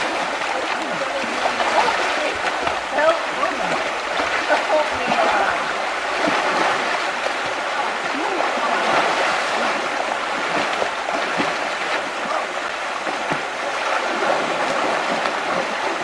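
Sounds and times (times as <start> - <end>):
river current rushing: 0.0 - 16.0
small water splashes: 0.0 - 16.0.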